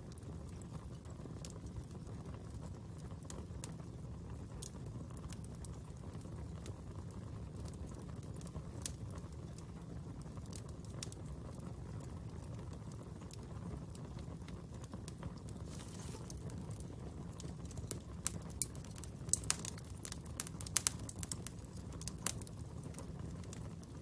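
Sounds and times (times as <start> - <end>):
fire burning: 0.0 - 24.0
fire crackling and popping: 0.0 - 24.0.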